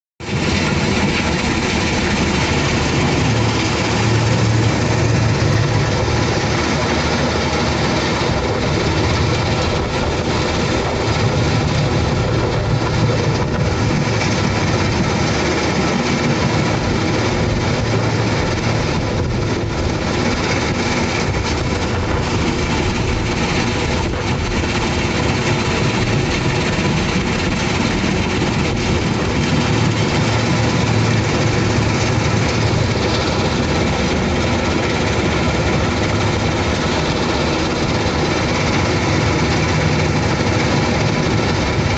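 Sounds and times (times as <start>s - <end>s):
diesel excavator: 0.2s - 41.9s
heavy machinery din: 0.2s - 41.9s.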